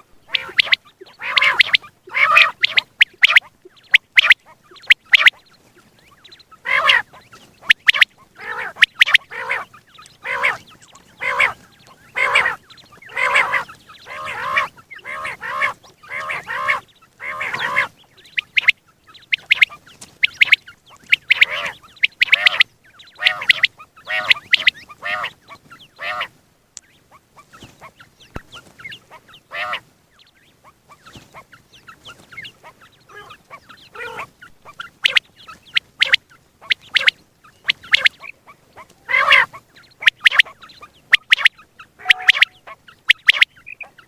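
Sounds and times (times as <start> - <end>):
quail calling: 0.0 - 44.0.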